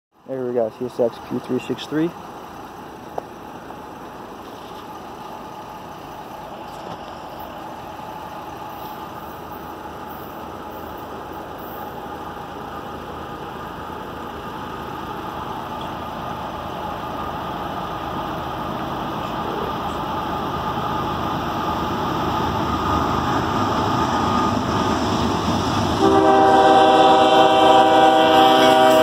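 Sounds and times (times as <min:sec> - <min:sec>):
diesel locomotive engine rumble: 0:00.1 - 0:29.0.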